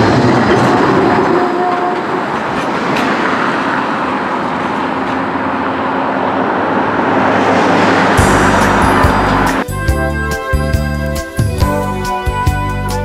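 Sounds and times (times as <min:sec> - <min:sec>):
tram running on tracks: 0:00.0 - 0:11.8.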